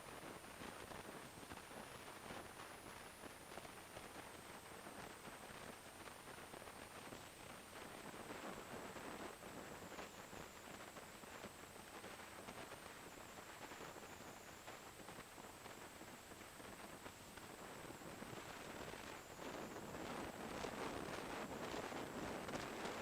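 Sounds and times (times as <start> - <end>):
wind rush on microphone: 0.0 - 23.0
small crackles: 0.1 - 23.0.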